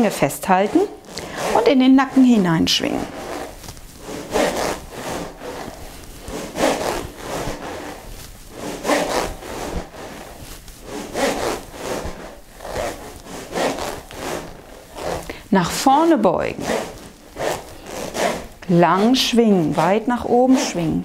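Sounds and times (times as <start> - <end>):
balls rolling in swung rings: 0.0 - 21.0.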